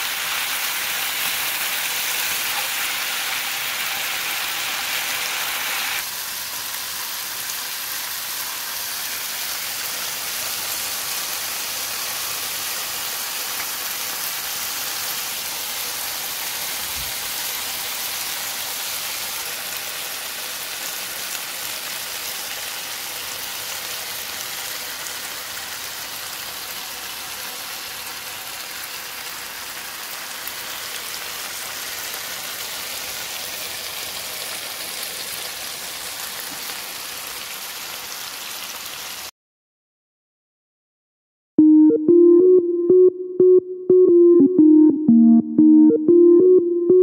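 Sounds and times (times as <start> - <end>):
food sizzling in a hot pan: 0.0 - 39.3.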